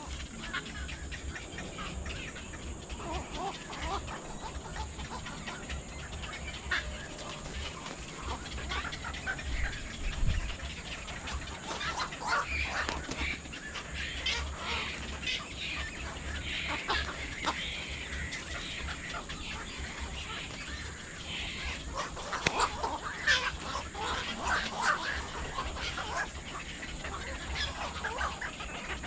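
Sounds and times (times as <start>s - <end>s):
birds squawking and chattering: 0.0s - 29.0s.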